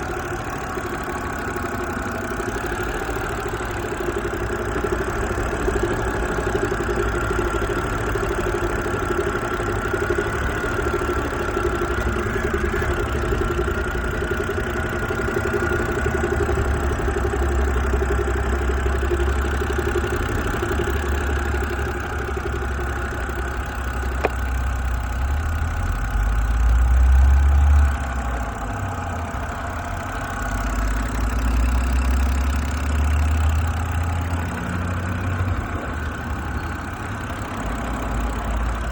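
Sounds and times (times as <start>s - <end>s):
car engine idling with knock: 0.0s - 38.9s.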